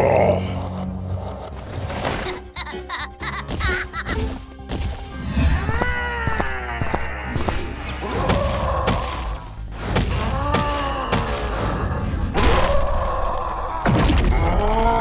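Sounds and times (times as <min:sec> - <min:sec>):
background music: 0:00.0 - 0:12.5.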